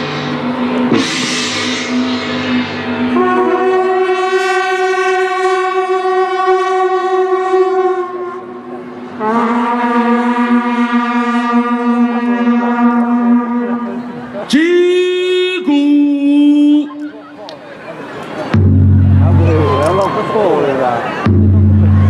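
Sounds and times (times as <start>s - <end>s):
horn-like soundtrack over loudspeakers: 0.0s - 17.0s, 18.5s - 22.0s.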